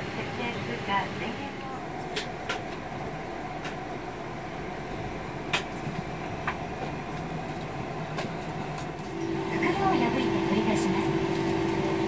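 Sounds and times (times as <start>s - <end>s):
cabin air conditioning hum: 0.0s - 12.0s.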